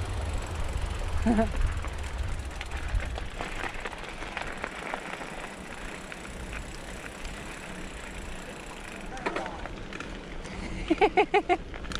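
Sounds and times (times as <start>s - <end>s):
tyres crunching on gravel: 0.0s - 10.4s
bike clicks and rattles: 0.0s - 11.9s.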